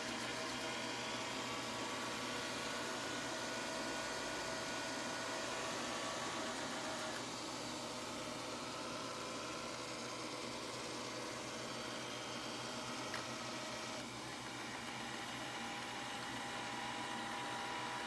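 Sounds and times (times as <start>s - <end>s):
robot vacuum running: 0.0s - 18.0s.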